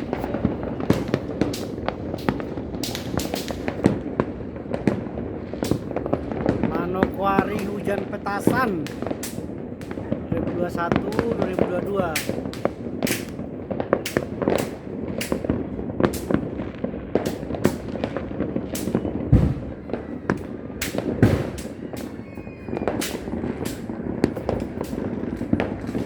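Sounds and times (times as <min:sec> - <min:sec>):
deep firework booms: 0:00.0 - 0:26.0
firecrackers cracking: 0:00.0 - 0:26.0.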